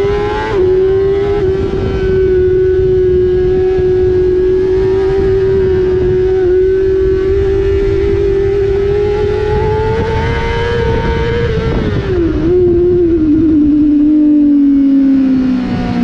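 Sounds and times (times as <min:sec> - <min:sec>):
motorcycle engine at high revs: 0:00.0 - 0:16.0
wind rush on microphone: 0:00.0 - 0:16.0.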